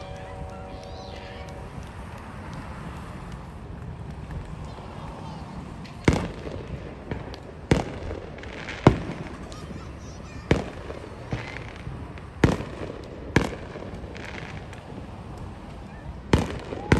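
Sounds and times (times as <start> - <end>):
fireworks booming: 0.0 - 16.9.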